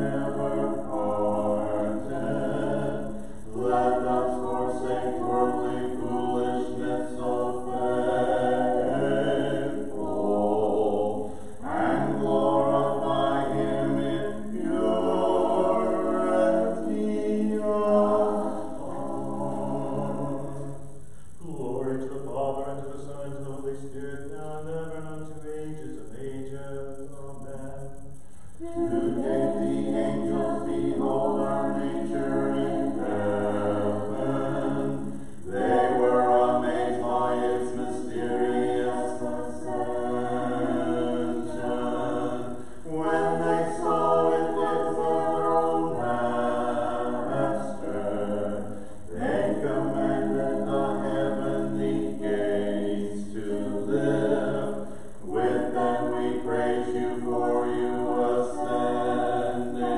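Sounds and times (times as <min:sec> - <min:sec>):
church choir singing a cappella: 0:00.0 - 0:59.9.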